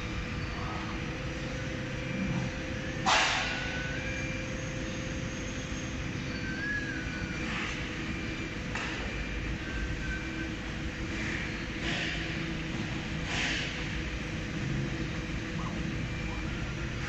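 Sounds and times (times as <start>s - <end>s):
cnc router humming and whining: 0.0s - 17.0s.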